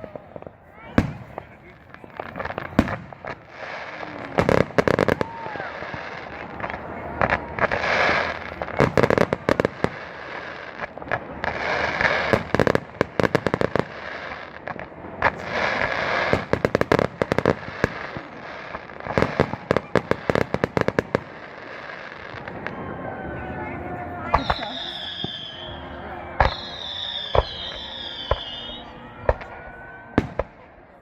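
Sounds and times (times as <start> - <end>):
fireworks cracking and popping: 0.0 - 31.0
fireworks hissing: 0.9 - 22.8, 24.3 - 28.9.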